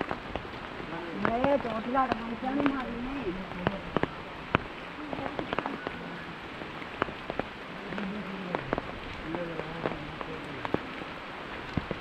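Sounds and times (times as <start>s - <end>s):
sharp raindrop impacts: 0.0s - 12.0s
steady rain hiss: 0.0s - 12.0s.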